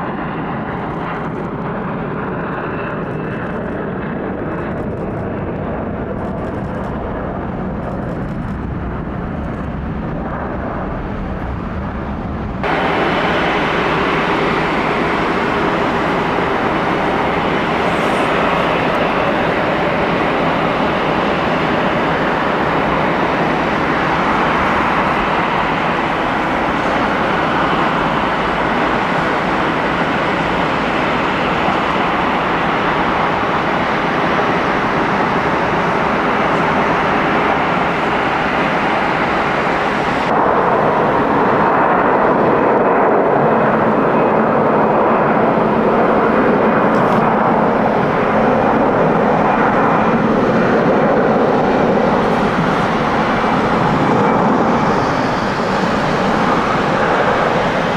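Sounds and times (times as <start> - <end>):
jet airliner engines roaring: 0.0 - 57.9.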